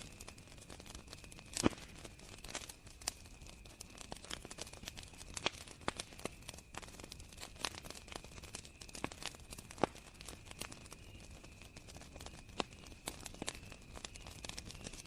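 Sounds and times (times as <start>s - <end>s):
cricket trill: 0.0s - 15.0s
wood fire crackling: 0.0s - 15.0s.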